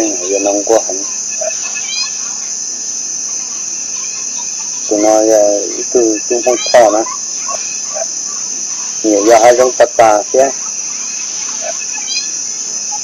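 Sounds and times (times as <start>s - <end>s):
high-pitched insect drone: 0.0s - 13.0s
short pitched calls: 0.0s - 13.0s.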